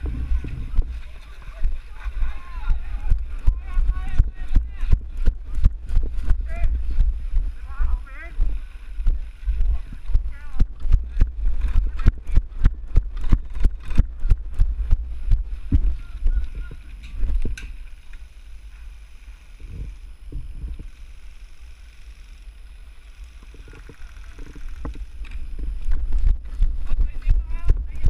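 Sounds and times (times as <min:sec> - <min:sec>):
running footsteps: 0:00.0 - 0:18.2, 0:23.6 - 0:28.0
wind rumble: 0:00.0 - 0:28.0.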